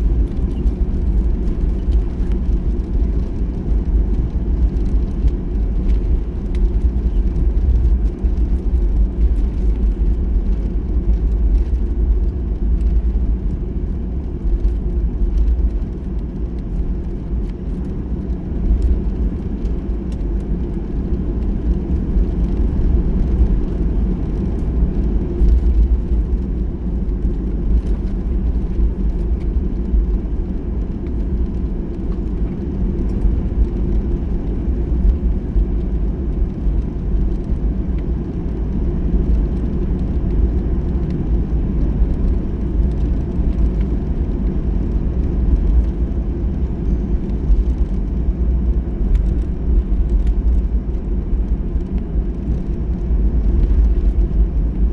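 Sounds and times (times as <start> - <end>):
aircraft engine drone in cabin: 0.0 - 54.9.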